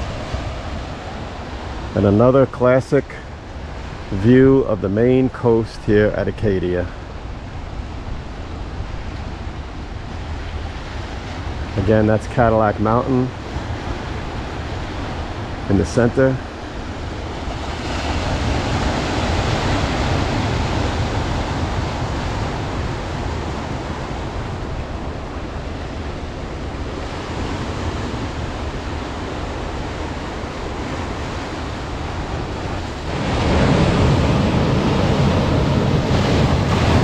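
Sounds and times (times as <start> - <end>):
ocean surf on rocky shore: 0.0 - 37.0
wind on microphone: 3.1 - 37.0.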